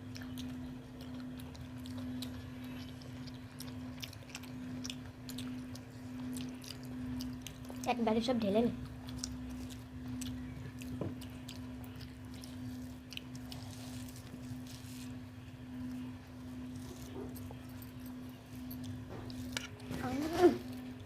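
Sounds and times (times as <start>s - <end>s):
person chewing: 0.0s - 7.9s, 8.8s - 21.0s
steady low hum: 0.0s - 21.0s.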